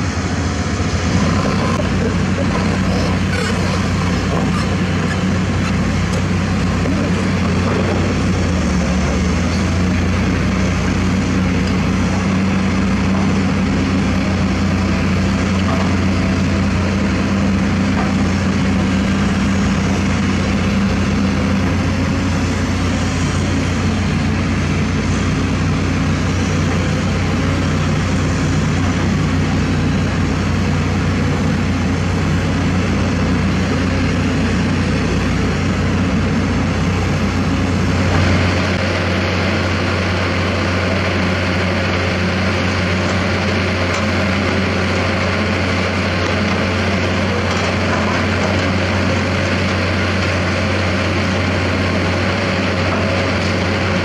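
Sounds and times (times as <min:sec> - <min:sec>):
excavator diesel engines droning: 0:00.0 - 0:54.0
excavator engine high-pitched noise: 0:00.0 - 0:54.0.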